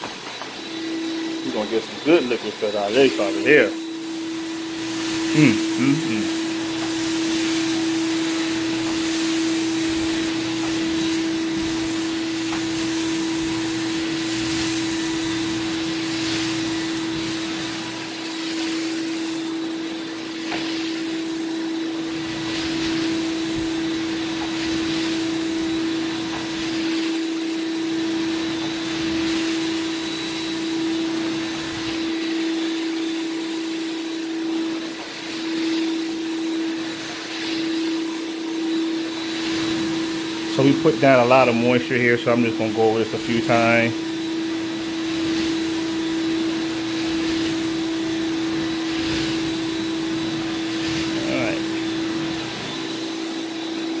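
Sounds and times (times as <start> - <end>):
carpet extraction wand sucking: 0.0 - 54.0
steady machine whine: 0.0 - 54.0.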